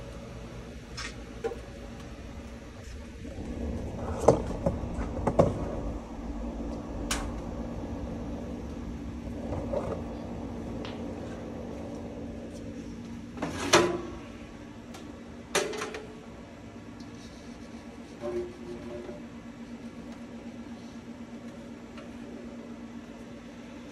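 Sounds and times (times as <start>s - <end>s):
air fryers humming: 0.0s - 23.9s.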